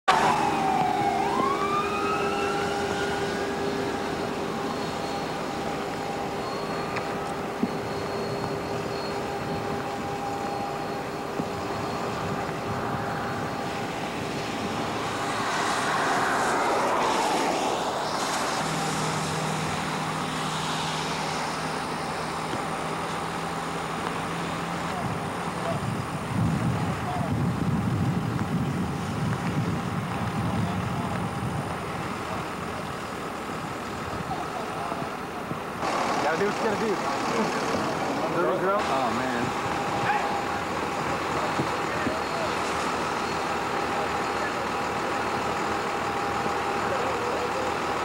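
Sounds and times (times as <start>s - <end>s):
traffic on wet highway: 0.0s - 48.0s
ambulance siren: 0.1s - 28.6s, 32.3s - 48.0s
low engine hum: 0.1s - 48.0s.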